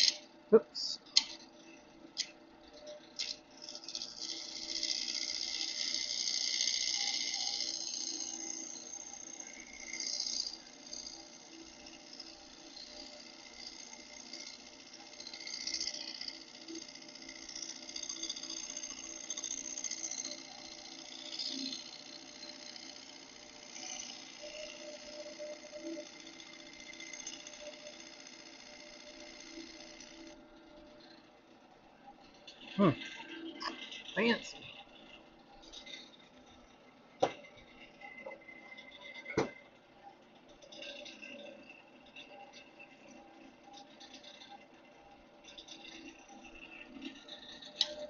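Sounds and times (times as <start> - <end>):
lathe tool scraping wood: 0.0 - 0.3, 1.1 - 48.0
lathe hum: 0.0 - 48.0.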